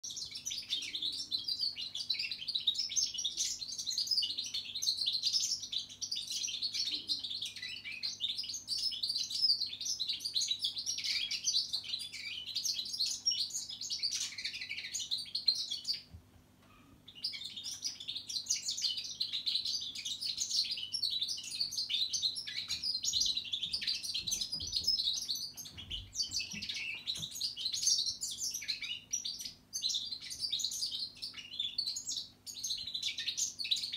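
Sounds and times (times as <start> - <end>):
finch singing twittering song: 0.0 - 33.9.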